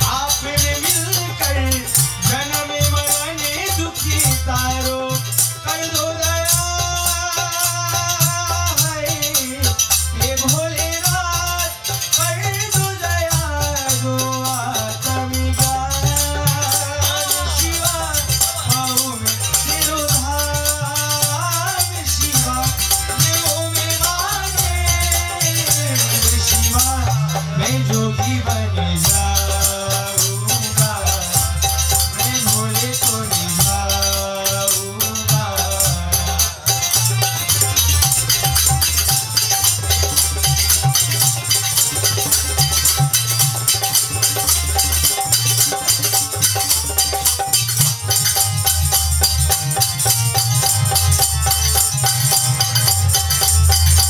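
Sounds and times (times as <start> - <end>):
tambourine and cymbals jingling: 0.0 - 27.6, 29.0 - 54.0
bass guitar: 0.0 - 54.0
dholak drumming: 0.0 - 54.0
harmonium: 0.0 - 54.0.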